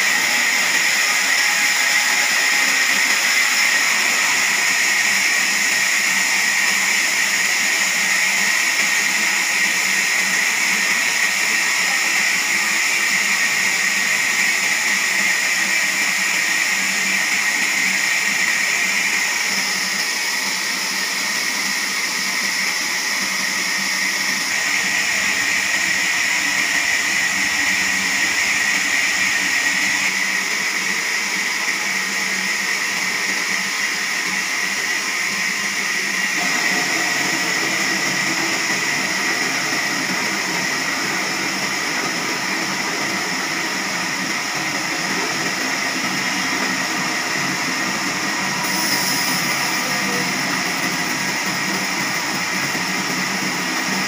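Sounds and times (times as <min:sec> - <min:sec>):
band saw cutting log: 0:00.0 - 0:33.7, 0:34.8 - 0:54.0.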